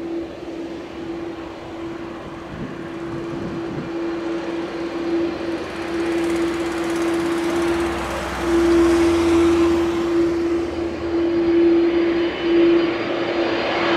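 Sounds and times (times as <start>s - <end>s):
jet engines idling: 0.0s - 13.9s.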